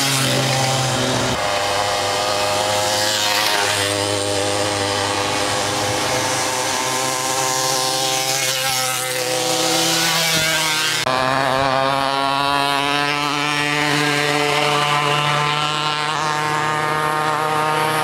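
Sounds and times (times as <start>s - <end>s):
moped engines buzzing: 0.0s - 18.0s.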